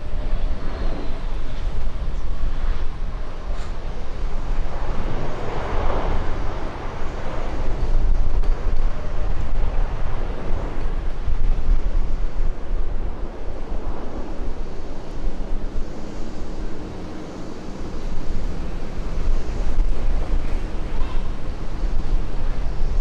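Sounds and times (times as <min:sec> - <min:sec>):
jet engines roaring: 0:00.0 - 0:23.0
wind buffeting microphone: 0:00.0 - 0:23.0.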